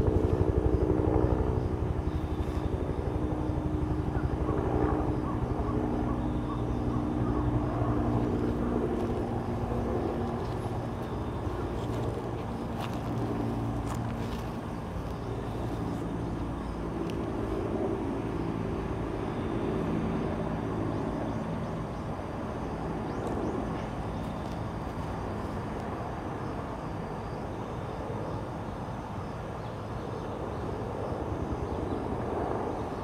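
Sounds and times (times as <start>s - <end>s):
distant road traffic rumble: 0.0s - 33.0s
faint engine hum: 0.0s - 33.0s.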